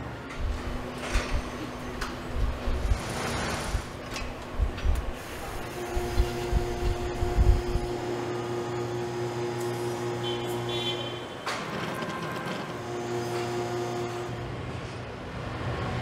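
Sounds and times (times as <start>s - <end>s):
steady machine hum: 0.0s - 14.5s.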